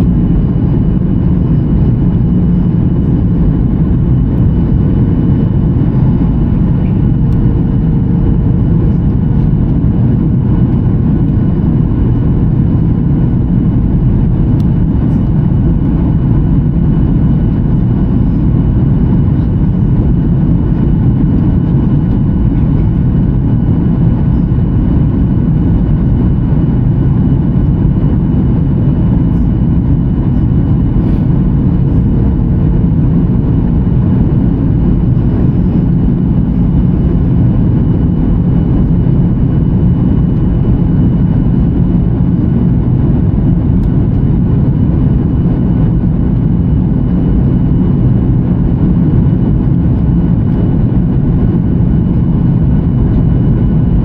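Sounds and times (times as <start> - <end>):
airliner low rumble: 0.0 - 54.0.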